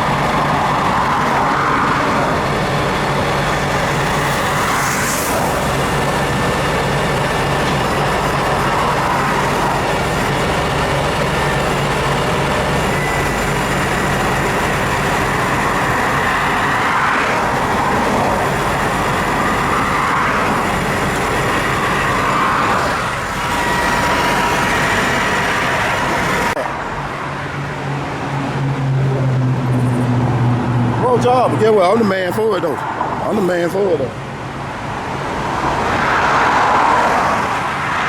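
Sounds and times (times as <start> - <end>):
motor vehicle road noise: 0.0 - 38.0.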